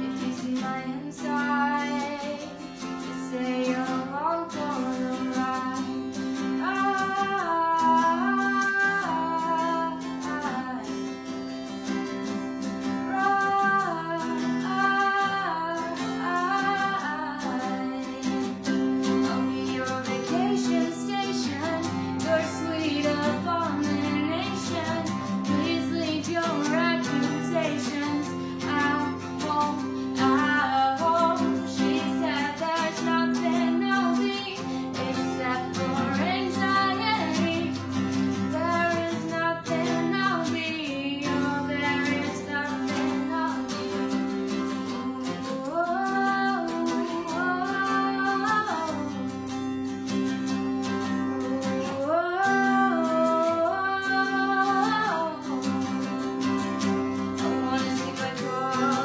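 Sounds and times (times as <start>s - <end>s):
guitar chords: 0.0s - 59.0s
woman singing: 0.0s - 59.0s.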